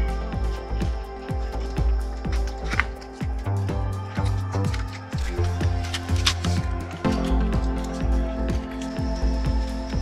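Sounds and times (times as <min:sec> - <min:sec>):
music with low drum beat: 0:00.0 - 0:10.0.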